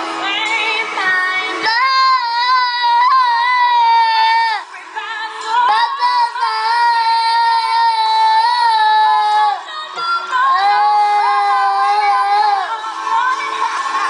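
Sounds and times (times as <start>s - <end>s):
music from laptop speakers: 0.0s - 14.0s.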